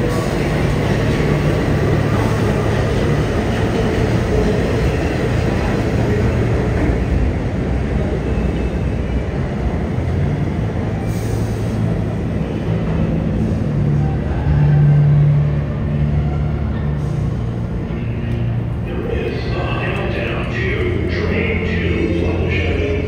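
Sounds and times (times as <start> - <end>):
subway train on rails: 0.0 - 23.0.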